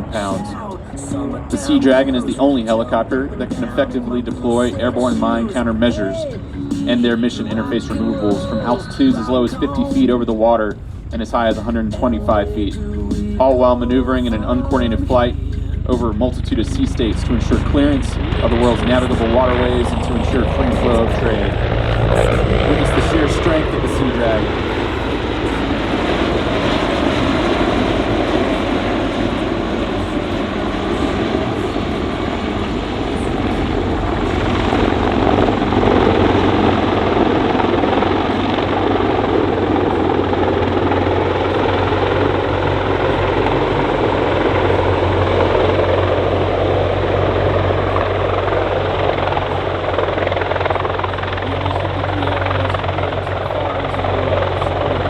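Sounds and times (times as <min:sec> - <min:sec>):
helicopter rotor and turbine noise: 0:00.0 - 0:55.0.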